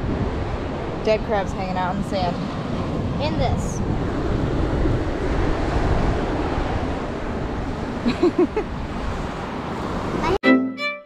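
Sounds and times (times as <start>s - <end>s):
surf washing on beach: 0.0s - 10.3s
wind buffeting microphone: 0.0s - 10.4s.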